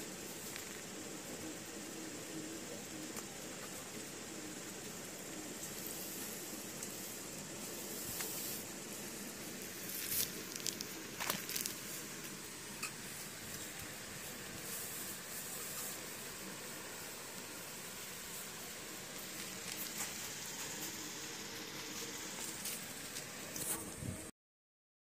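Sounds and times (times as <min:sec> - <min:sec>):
steady hiss: 0:00.0 - 0:24.3.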